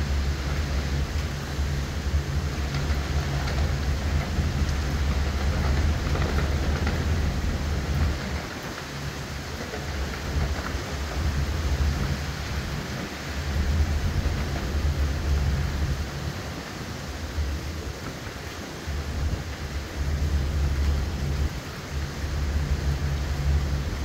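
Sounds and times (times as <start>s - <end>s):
heavy rain: 0.0s - 24.0s
wind gusting in deep rumble: 0.0s - 24.0s.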